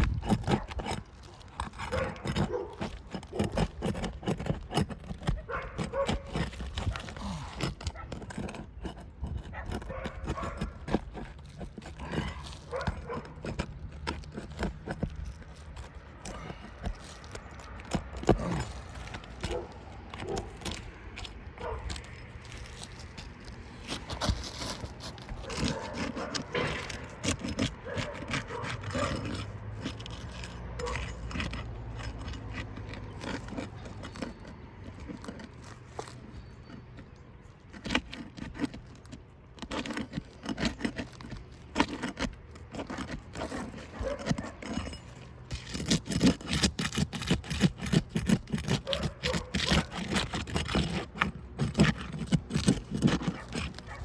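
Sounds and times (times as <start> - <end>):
roof shingles being pried up: 0.0 - 54.0.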